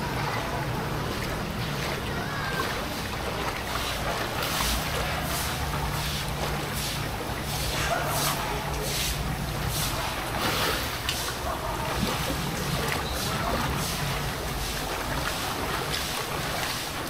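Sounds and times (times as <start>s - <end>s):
low steady rumble: 0.0s - 16.6s
footsteps sloshing through water: 0.0s - 17.0s.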